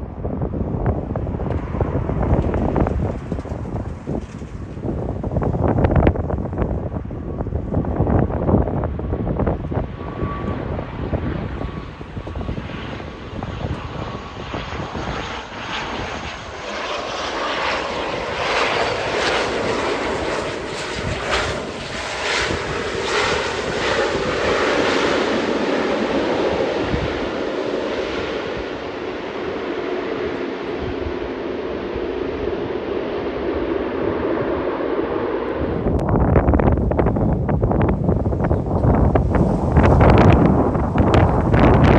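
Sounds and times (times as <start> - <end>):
airliner engines passing: 0.0 - 41.9
wind buffeting microphone: 0.0 - 41.9.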